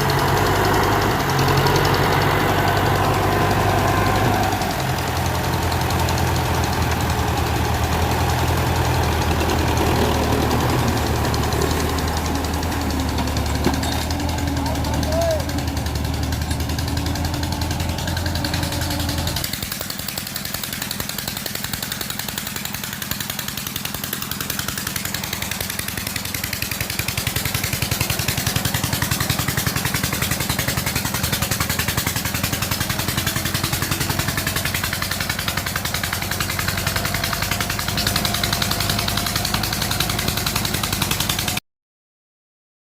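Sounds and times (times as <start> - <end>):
tractor diesel engine under load: 0.0 - 41.6.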